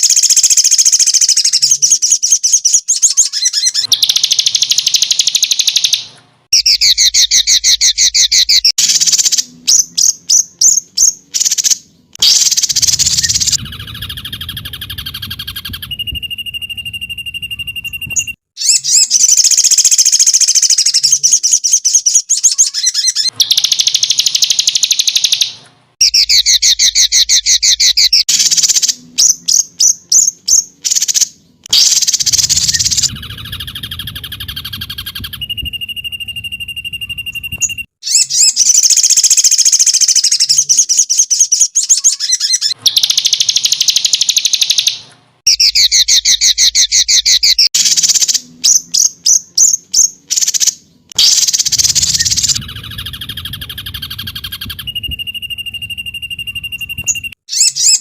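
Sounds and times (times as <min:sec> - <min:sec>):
bird whistle: 0:00.0 - 0:58.0
songbird trills and chattering: 0:00.0 - 0:58.0.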